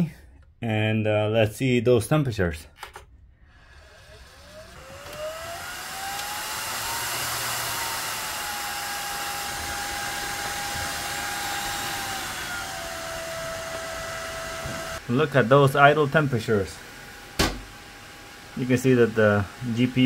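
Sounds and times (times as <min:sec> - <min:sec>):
computer fans whining: 0:02.8 - 0:20.0.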